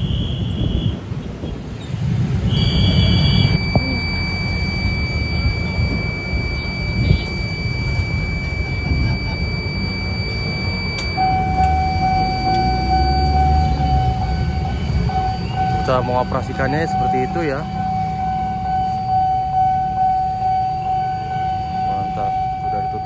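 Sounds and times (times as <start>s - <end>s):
high electronic buzzer tone: 0.0s - 1.0s, 2.4s - 23.0s
engine and traffic rumble: 0.0s - 23.0s
lower steady tone: 2.5s - 23.0s.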